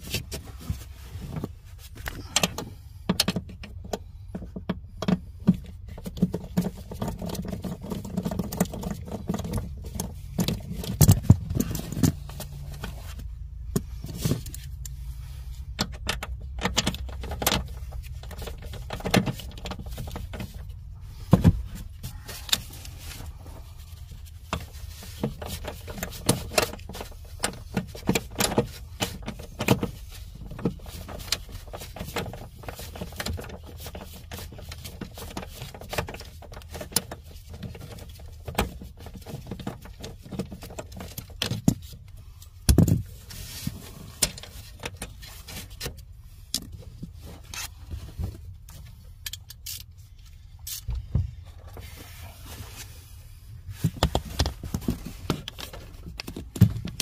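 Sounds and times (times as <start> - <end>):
low steady rumble: 0.0 - 57.0.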